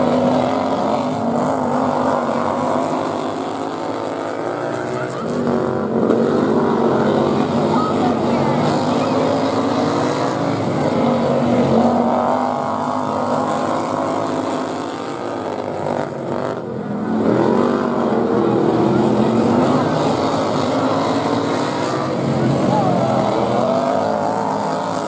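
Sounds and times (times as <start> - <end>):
racing lawn mower engines: 0.0 - 25.0.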